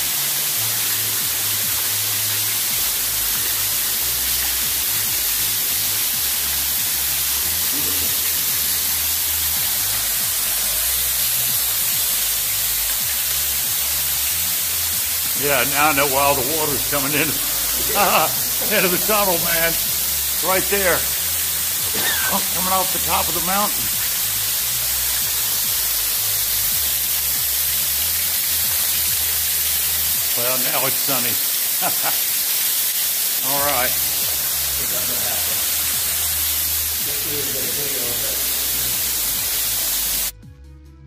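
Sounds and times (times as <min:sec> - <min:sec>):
soft background music: 0:00.0 - 0:31.4, 0:33.4 - 0:41.0
falling splashing water: 0:00.0 - 0:40.3.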